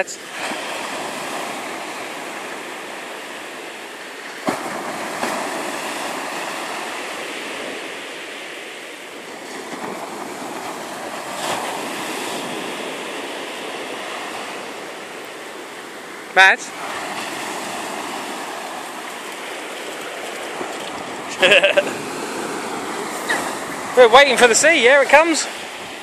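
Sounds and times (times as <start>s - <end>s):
surf breaking on sand: 0.0s - 26.0s.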